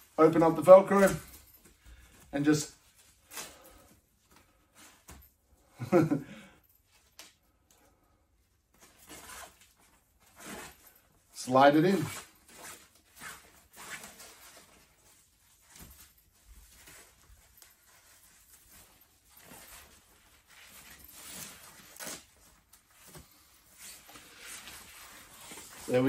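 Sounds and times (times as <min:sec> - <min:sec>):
nylon fabric rustling and scraping: 0:00.0 - 0:05.2, 0:08.6 - 0:26.0.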